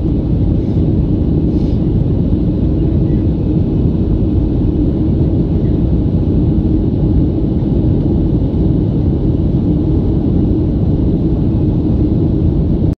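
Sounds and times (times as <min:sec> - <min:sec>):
airplane cabin engine roar: 0:00.0 - 0:13.0.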